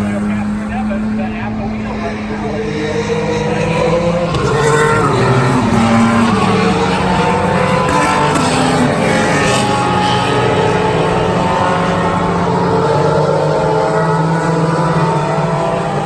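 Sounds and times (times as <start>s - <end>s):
racing car engines running: 0.0s - 16.0s.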